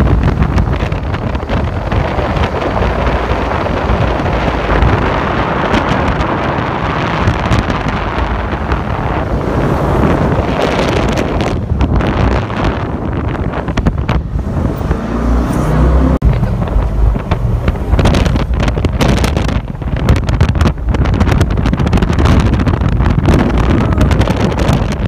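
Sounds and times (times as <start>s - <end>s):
boat moving through water: 0.0s - 25.0s
wind buffeting microphone: 0.0s - 25.0s.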